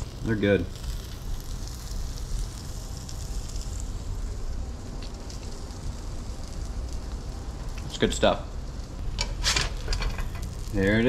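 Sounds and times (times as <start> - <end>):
butter sizzling in frying pan: 0.0 - 11.0
faint crackles: 0.0 - 11.0.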